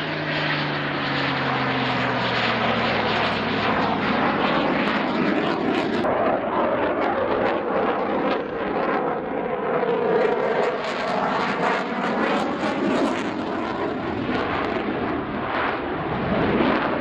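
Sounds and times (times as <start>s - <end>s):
jet fighter roaring overhead: 0.0s - 17.0s.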